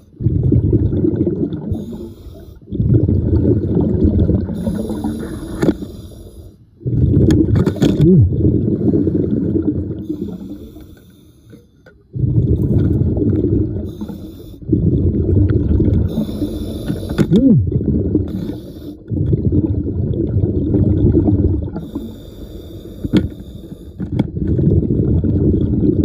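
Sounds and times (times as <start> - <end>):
bubbling exhaled air underwater: 0.0 - 6.0, 6.8 - 10.8, 12.0 - 23.4, 24.0 - 26.0.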